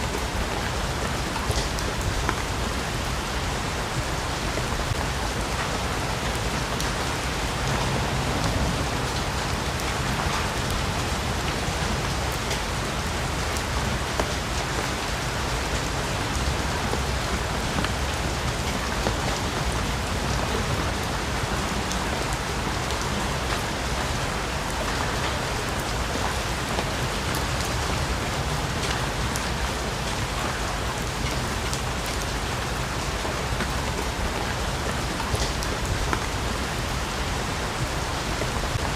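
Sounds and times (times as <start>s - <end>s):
heavy rain on foliage: 0.0s - 38.9s.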